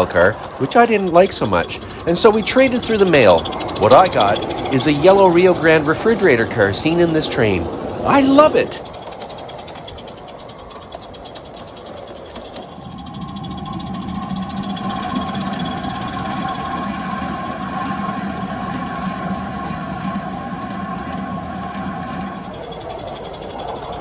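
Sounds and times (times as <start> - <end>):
model train cars rumbling on track: 0.0 - 24.0.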